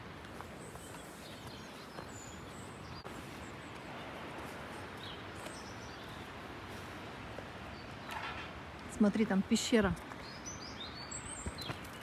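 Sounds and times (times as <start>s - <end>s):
small birds chirping: 0.0s - 12.0s
steady rushing outdoor noise: 0.0s - 12.0s.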